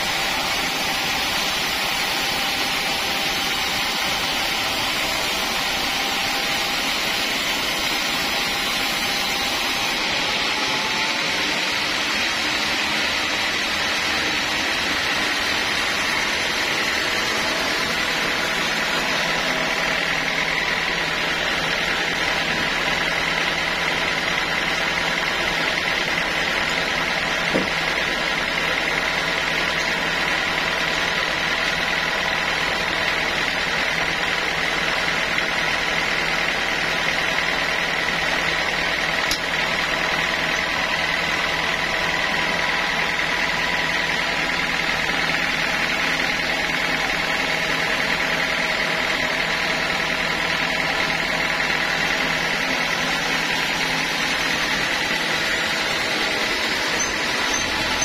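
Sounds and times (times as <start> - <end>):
sawmill machinery drone with whine: 0.0 - 58.0.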